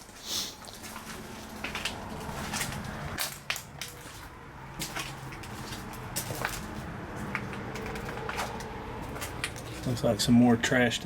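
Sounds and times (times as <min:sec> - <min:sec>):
footsteps crunching on debris: 0:00.0 - 0:10.2.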